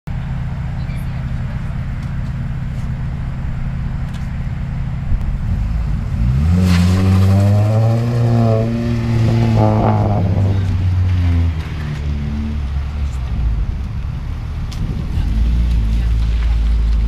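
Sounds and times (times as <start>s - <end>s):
car engine revving: 0.5s - 17.0s.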